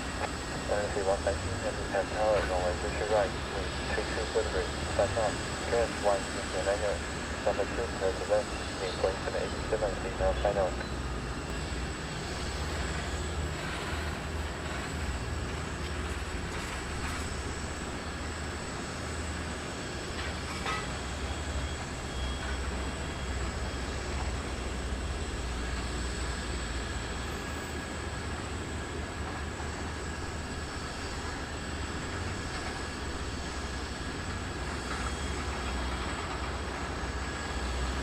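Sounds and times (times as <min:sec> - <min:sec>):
jet engines rumbling and whining: 0:00.0 - 0:38.0.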